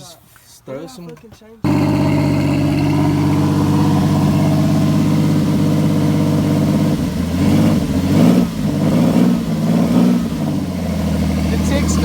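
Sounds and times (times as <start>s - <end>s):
car engine idling and revving: 1.7s - 12.0s.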